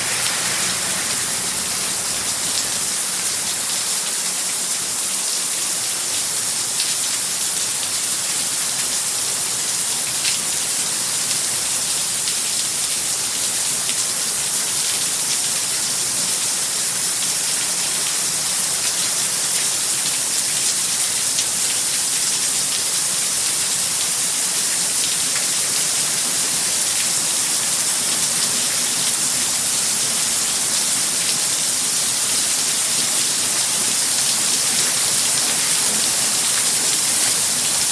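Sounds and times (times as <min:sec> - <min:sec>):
heavy rain pouring: 0:00.0 - 0:37.9
raindrops ticking on surfaces: 0:00.0 - 0:37.9.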